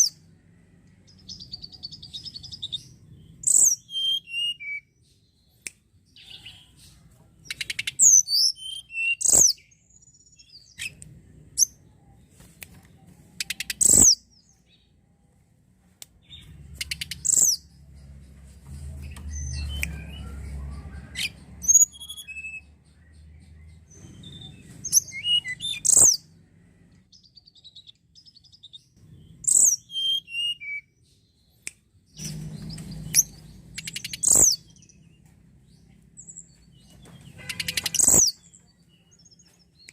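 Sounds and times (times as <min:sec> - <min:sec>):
bird singing rapid sweeping notes: 0:01.0 - 0:05.6, 0:07.5 - 0:11.8, 0:13.4 - 0:14.9, 0:16.2 - 0:26.4, 0:27.0 - 0:39.9.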